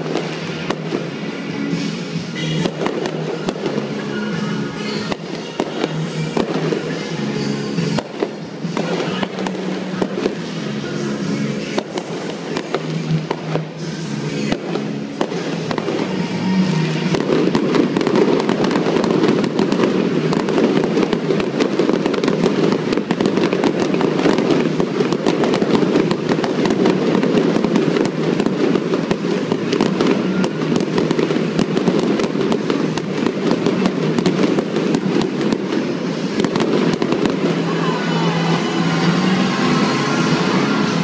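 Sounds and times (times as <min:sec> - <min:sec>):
fireworks bursting and crackling: 0:00.0 - 0:41.0.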